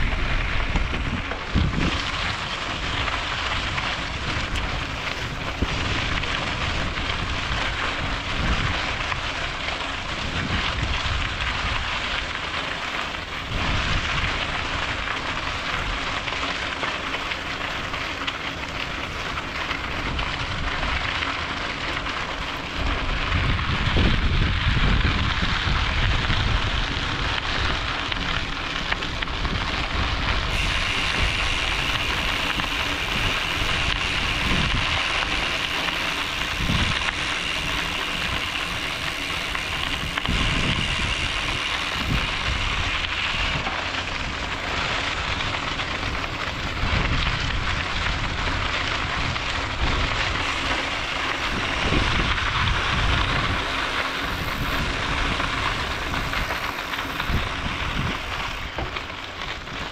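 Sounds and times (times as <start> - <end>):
bike tyres rolling over gravel: 0.0 - 59.9.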